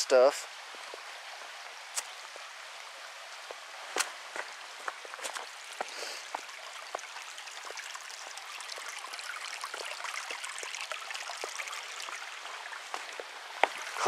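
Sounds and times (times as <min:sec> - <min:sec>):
creek water trickling: 0:00.0 - 0:14.0.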